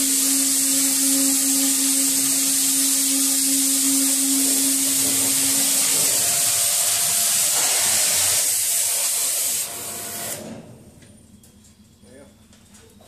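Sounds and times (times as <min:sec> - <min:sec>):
cutting torch hissing: 0:00.0 - 0:10.6.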